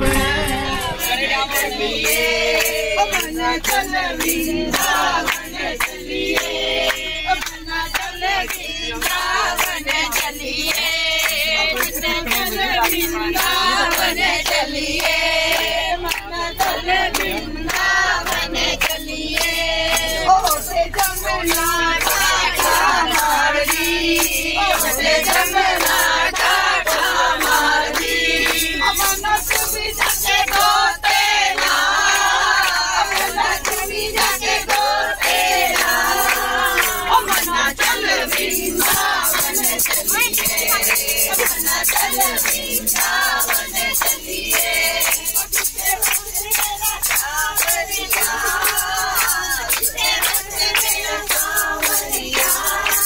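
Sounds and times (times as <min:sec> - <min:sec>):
group singing in chorus: 0:00.0 - 0:53.0
hand claps: 0:01.0 - 0:53.0.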